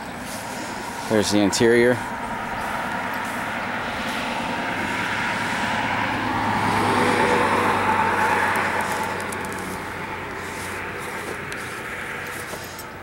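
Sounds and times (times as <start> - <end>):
passing vehicle engine: 0.0 - 13.0
tyre noise: 0.0 - 13.0.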